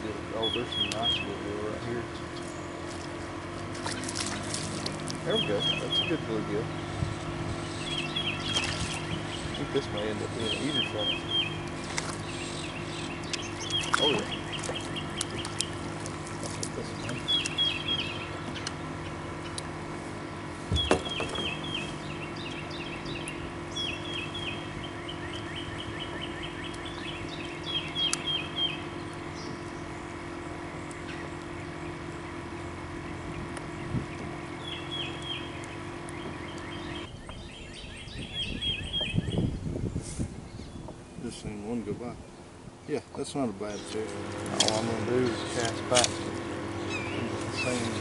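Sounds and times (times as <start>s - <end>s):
steady low hum: 0.0s - 48.0s
bird singing falling chirps: 0.3s - 2.9s, 3.9s - 19.7s, 20.7s - 39.8s, 42.2s - 48.0s.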